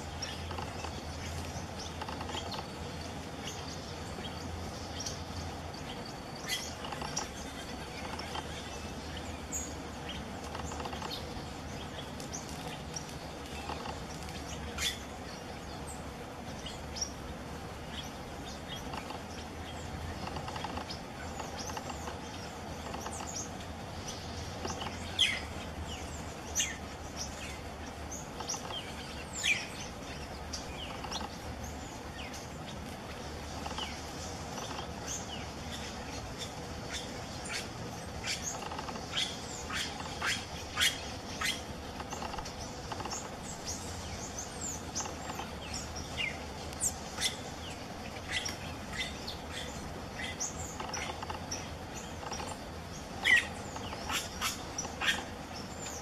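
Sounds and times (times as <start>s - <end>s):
birds chirping: 0.0s - 56.0s
steady low hum: 0.0s - 56.0s.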